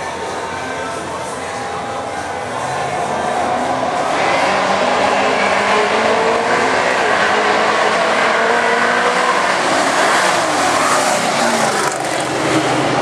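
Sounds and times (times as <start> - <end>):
truck engines at full throttle: 0.0 - 13.0.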